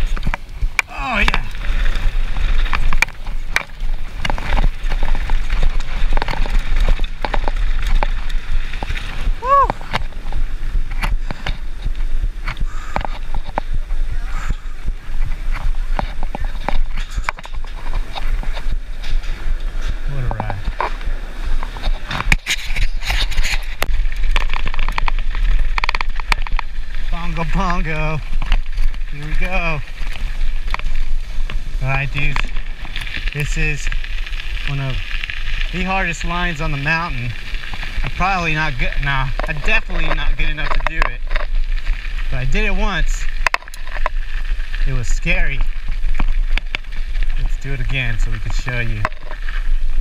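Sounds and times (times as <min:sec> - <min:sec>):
bike chain and frame rattling: 0:00.0 - 0:50.0
wind rumble on microphone: 0:00.0 - 0:50.0.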